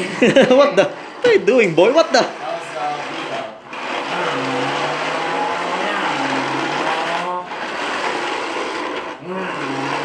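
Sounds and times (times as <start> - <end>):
toy truck electric motor whining: 1.2 - 10.0.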